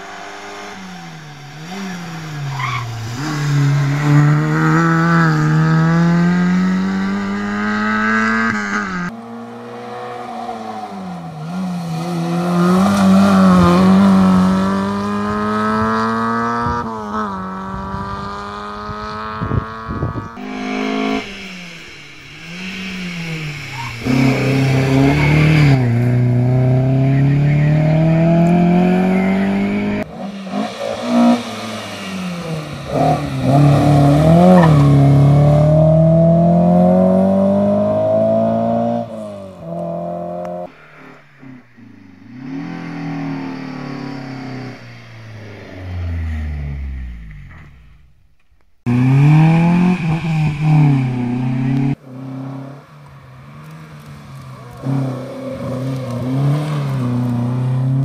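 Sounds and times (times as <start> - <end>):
car passing with revs rising: 0.0 - 58.0
rally car engine revving: 0.0 - 58.0.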